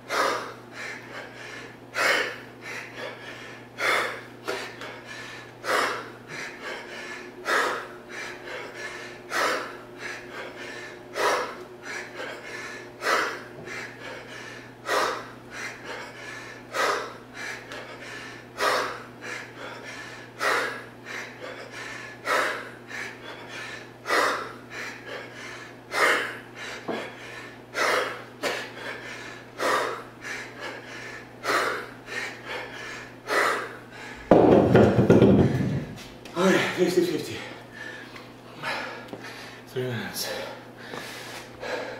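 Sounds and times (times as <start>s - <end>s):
man breathing hard: 0.0s - 41.9s.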